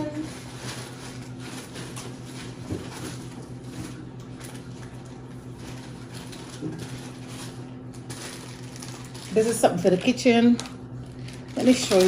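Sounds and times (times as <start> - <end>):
packaging rustling: 0.0 - 9.9, 10.6 - 12.0
steady low hum: 0.0 - 12.0.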